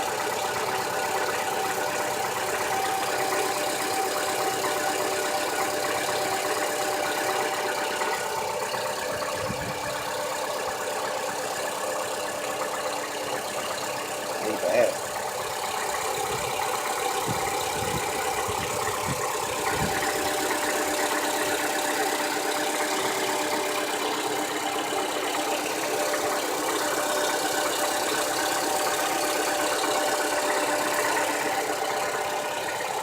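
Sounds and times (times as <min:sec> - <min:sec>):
car engine idling with knock: 0:00.0 - 0:33.0.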